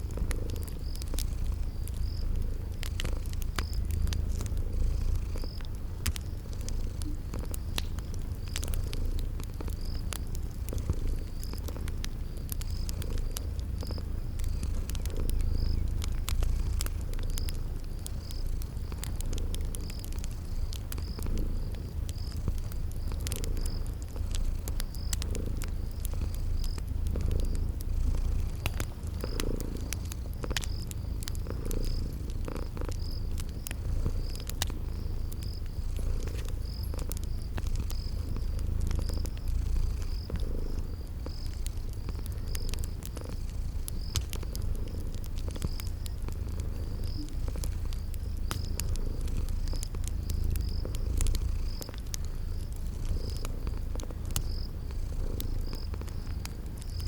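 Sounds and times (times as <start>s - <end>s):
cat purring: 0.0s - 57.0s
cricket chirping: 0.0s - 57.0s
wood fire crackling: 0.0s - 57.0s.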